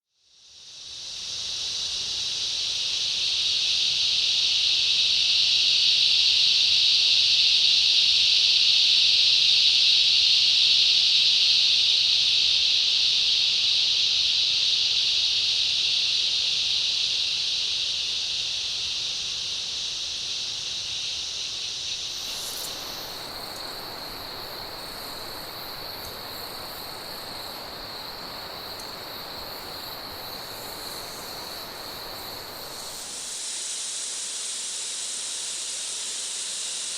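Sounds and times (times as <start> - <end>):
cicada chorus buzzing: 0.2 - 36.9
insects whining and trilling: 0.3 - 36.9.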